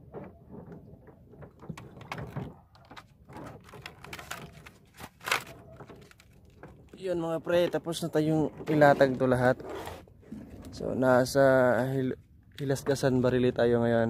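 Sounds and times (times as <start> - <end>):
fishing gear knocking and scraping: 0.0 - 11.3.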